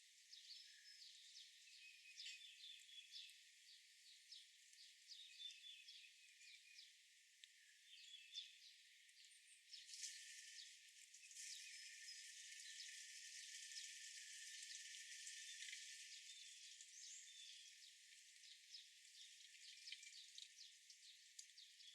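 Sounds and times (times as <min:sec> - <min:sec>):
small birds chirping: 0:00.2 - 0:21.9.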